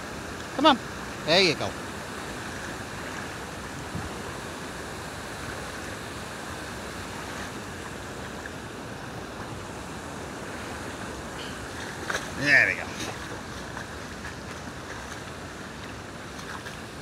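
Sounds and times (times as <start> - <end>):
stream rushing over stones: 0.0 - 17.0.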